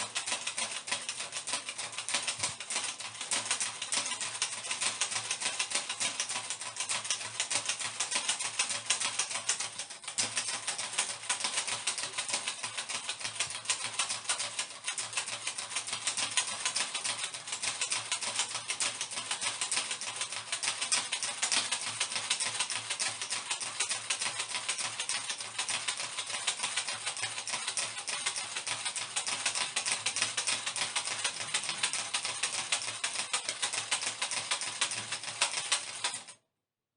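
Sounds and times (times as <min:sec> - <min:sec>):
hand fan flapping: 0:00.0 - 0:36.4.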